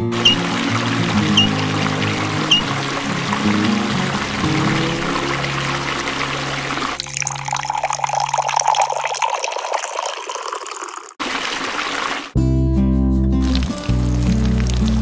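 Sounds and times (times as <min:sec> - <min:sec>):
thin stream of water running: 0:00.0 - 0:12.4, 0:13.4 - 0:15.0.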